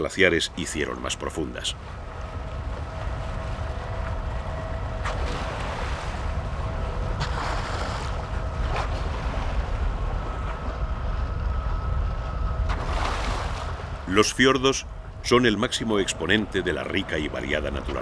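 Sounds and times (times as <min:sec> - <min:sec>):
boat engine running: 0:00.0 - 0:18.0
faint steady whine: 0:00.0 - 0:18.0
wind rumble on microphone: 0:00.0 - 0:18.0.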